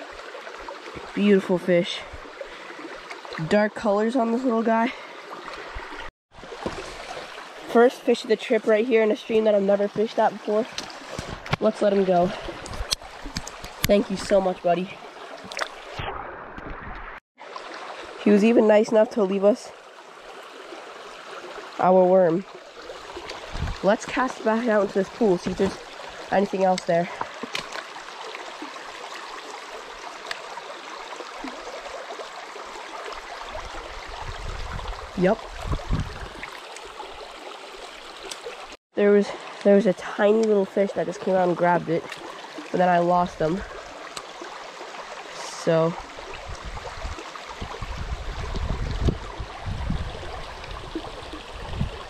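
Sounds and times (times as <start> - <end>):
brook running over stones: 0.0 - 52.0.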